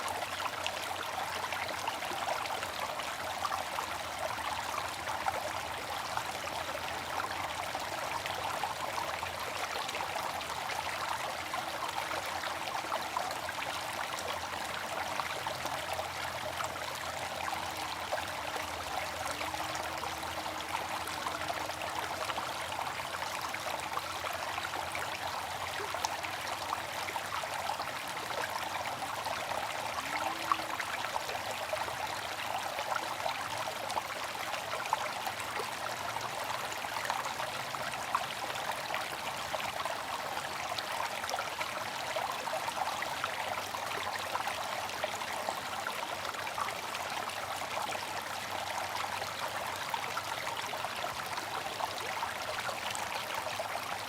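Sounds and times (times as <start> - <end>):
water trickling and splashing: 0.0 - 54.0.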